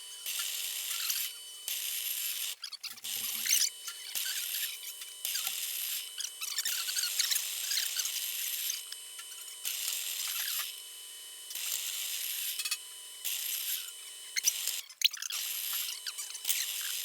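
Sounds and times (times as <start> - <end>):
power drill boring through steel: 0.0 - 10.9, 11.5 - 17.0.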